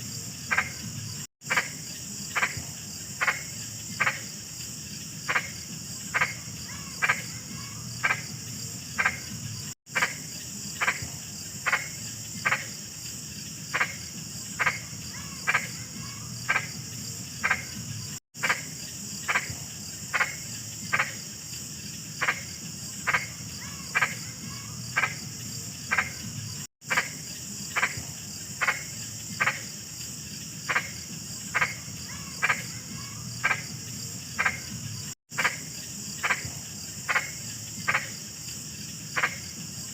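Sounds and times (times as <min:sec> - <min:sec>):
frog croaking: 0:00.0 - 0:04.5, 0:05.1 - 0:12.9, 0:13.6 - 0:21.4, 0:22.1 - 0:39.9
crickets trilling: 0:00.0 - 0:39.9.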